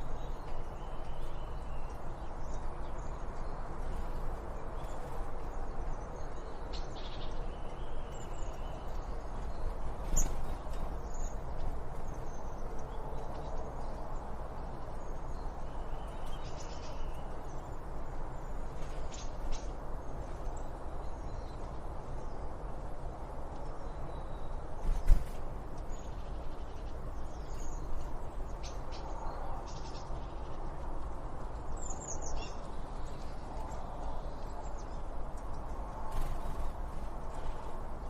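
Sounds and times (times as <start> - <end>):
background rushing noise: 0.0 - 38.0.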